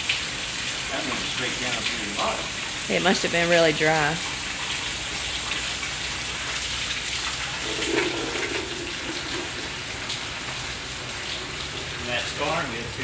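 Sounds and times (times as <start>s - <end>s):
runoff water pouring off roof: 0.0s - 13.0s
steady rain: 0.0s - 13.0s.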